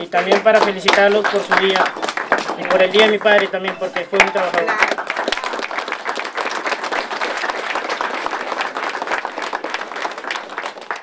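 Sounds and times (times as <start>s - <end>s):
people applauding: 0.0s - 11.0s.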